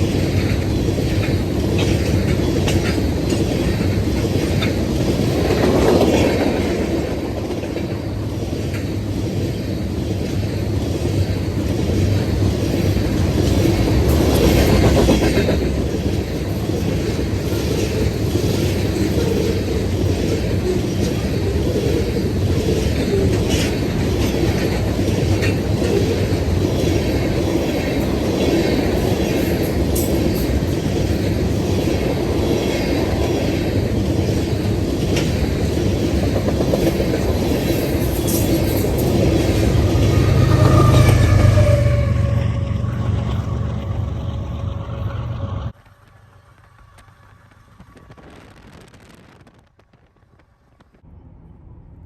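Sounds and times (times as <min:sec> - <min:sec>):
wheels clacking over rail joints: 0:00.0 - 0:48.4
train rumbling past: 0:00.0 - 0:52.0.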